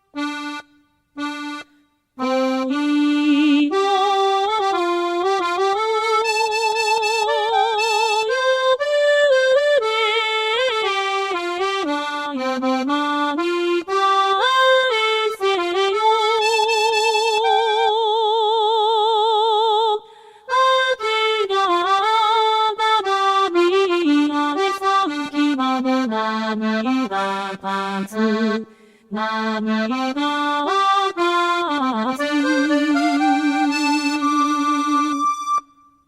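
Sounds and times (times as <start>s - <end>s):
accordion melody: 0.0s - 18.5s, 20.2s - 36.0s.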